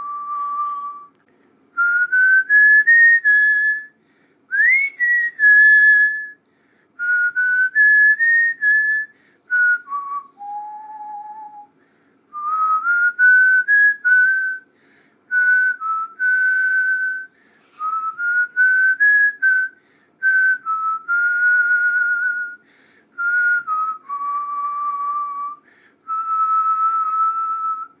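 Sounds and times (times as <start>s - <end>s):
person whistling a tune: 0.0s - 1.2s, 1.8s - 6.4s, 7.0s - 14.7s, 15.3s - 28.0s.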